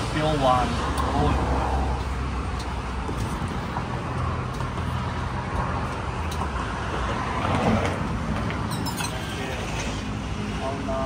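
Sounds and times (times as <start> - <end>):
vehicle passing: 0.0 - 10.9
road traffic rumble: 0.0 - 11.0.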